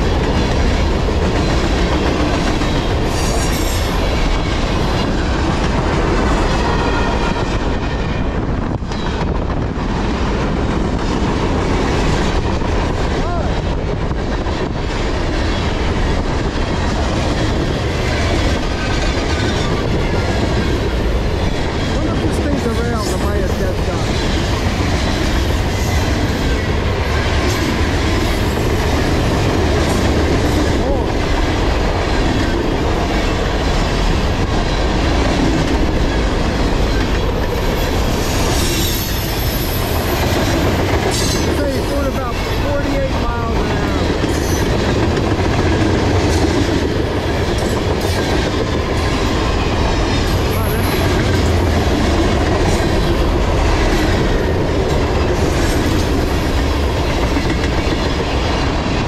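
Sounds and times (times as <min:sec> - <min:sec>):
steel train wheels rumbling on rail: 0:00.0 - 0:59.0.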